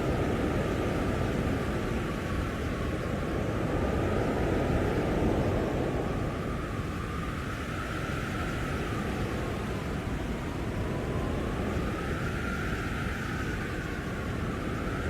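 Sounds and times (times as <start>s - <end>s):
strong wind howling: 0.0s - 15.0s.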